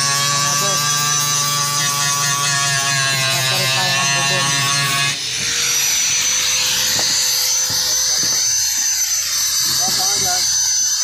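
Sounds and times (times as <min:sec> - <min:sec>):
power tool motor buzzing: 0:00.0 - 0:11.0.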